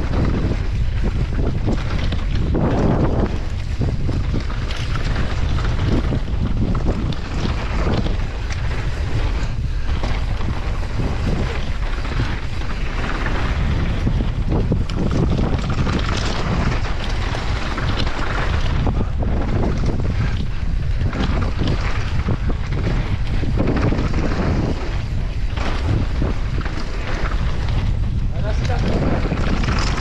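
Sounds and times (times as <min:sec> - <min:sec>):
bike rattling: 0:00.0 - 0:30.0
tyres crackling over gravel: 0:00.0 - 0:30.0
wind buffeting microphone: 0:00.0 - 0:30.0.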